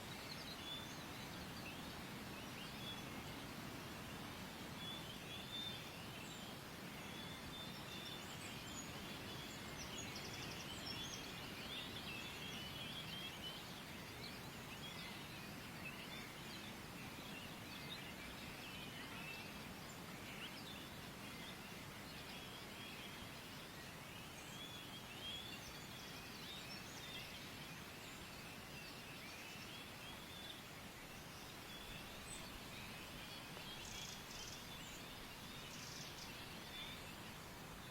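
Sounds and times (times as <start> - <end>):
small birds chirping: 0.0 - 37.9
steady low hiss: 0.0 - 37.9.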